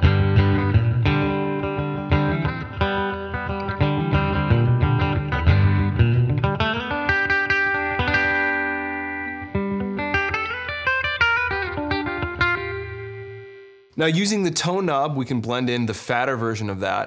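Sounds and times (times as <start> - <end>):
clean electric guitar notes: 0.0 - 14.0.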